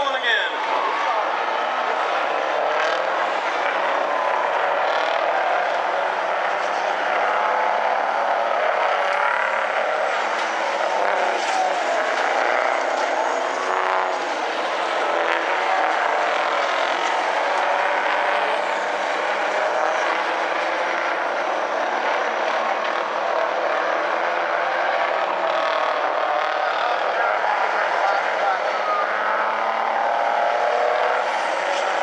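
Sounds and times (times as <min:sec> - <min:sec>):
truck engines racing: 0:00.0 - 0:32.0.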